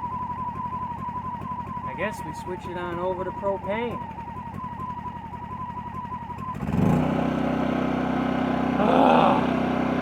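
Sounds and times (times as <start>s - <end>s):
generator engine starting and humming: 0.0s - 10.0s.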